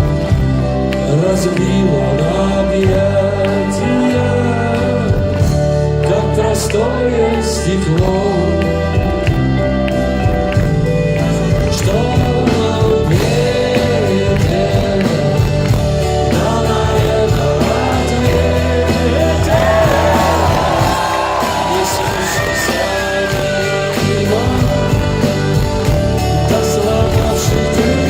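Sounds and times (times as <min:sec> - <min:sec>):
live rock band ballad: 0:00.0 - 0:28.0.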